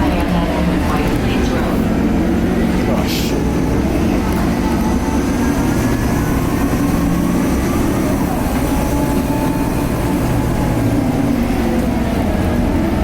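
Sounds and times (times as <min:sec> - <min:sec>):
bus diesel engine rumble: 0:00.0 - 0:13.0.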